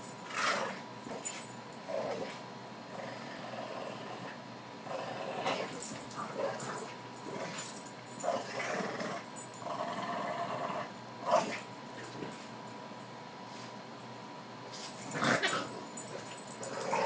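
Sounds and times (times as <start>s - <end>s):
dogs growling in play: 0.3s - 12.5s, 14.7s - 17.0s.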